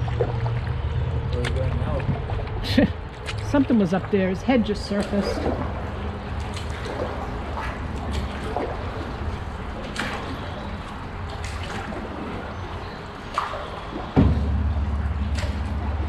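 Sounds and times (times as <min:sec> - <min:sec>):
steady low rumble: 0:00.0 - 0:16.0
water drips and splashes: 0:00.0 - 0:16.0.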